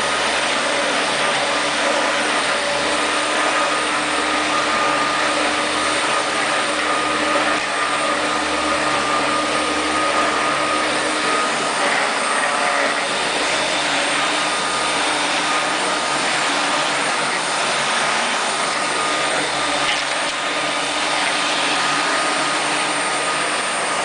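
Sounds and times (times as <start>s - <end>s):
electric mower whirring: 0.0s - 24.0s.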